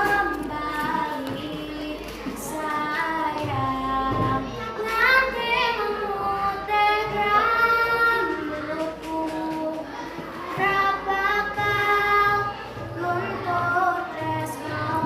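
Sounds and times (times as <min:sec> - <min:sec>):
girl singing a slow melody: 0:00.0 - 0:15.0.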